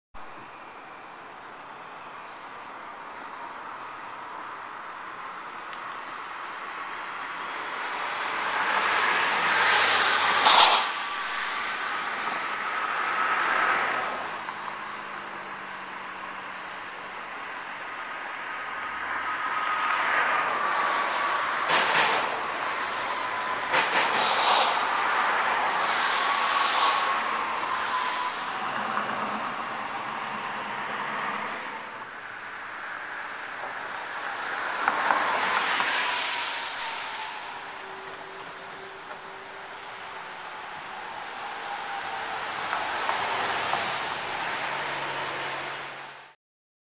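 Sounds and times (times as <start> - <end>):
car road noise: 0.2 - 46.4
vehicles passing: 0.2 - 46.4.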